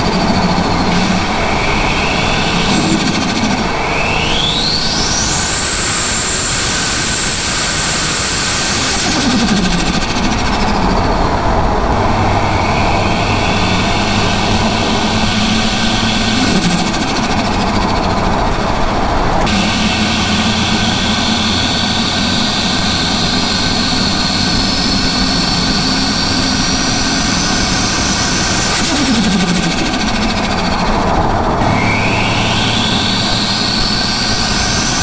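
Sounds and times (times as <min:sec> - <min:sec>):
engine revving: 0:00.0 - 0:35.0
turbo flutter chatter: 0:00.0 - 0:35.0
turbo whine: 0:00.0 - 0:35.0.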